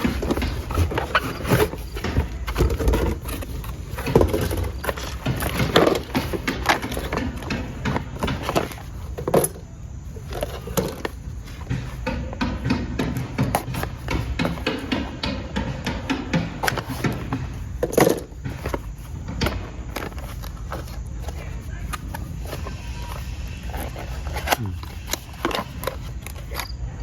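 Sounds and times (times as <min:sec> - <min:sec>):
knocks and clatter: 0:00.0 - 0:26.8.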